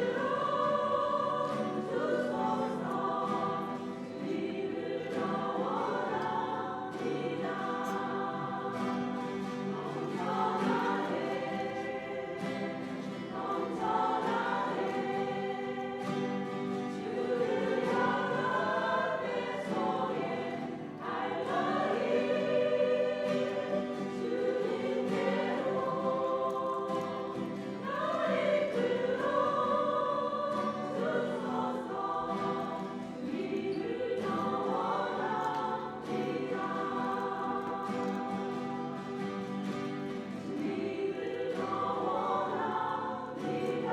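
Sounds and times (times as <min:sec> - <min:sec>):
church choir singing: 0:00.0 - 0:43.9.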